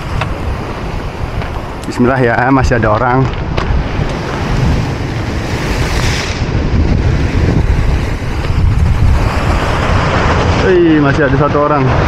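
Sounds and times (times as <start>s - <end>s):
waves breaking on rocks: 0.0s - 12.0s
wind buffeting microphone: 0.0s - 12.0s.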